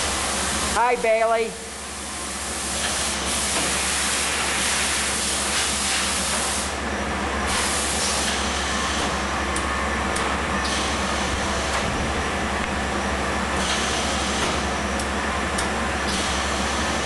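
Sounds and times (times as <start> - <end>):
welding machine hiss: 0.0 - 6.8, 7.4 - 12.1, 12.7 - 17.0
low machine hum: 0.0 - 17.0.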